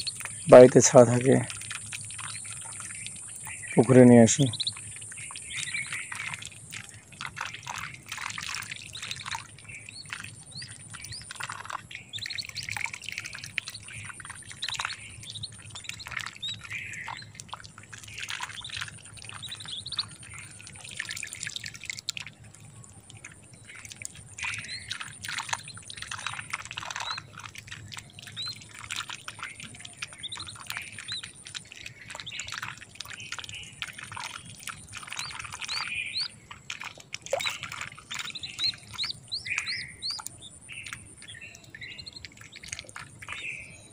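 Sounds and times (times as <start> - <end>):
ducklings peeping: 0.0 - 22.4, 23.1 - 43.9.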